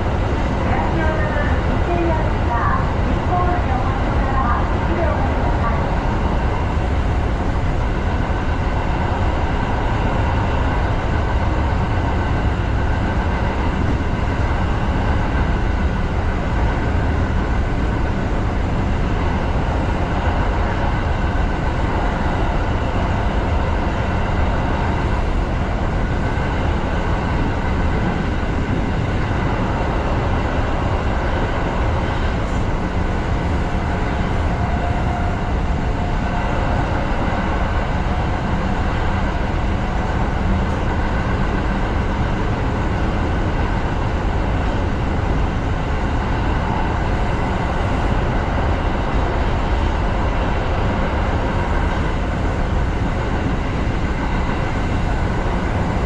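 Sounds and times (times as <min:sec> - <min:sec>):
train motor hum: 0:00.0 - 0:56.0
train wheels rumbling on rail: 0:00.0 - 0:56.0.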